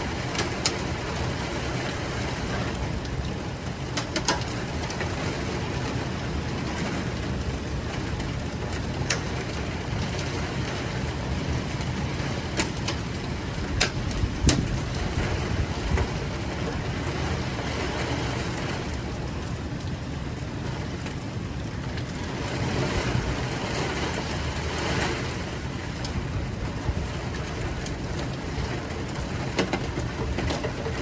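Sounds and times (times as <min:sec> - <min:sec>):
rain on a moving car: 0:00.0 - 0:31.0
road noise: 0:00.0 - 0:31.0.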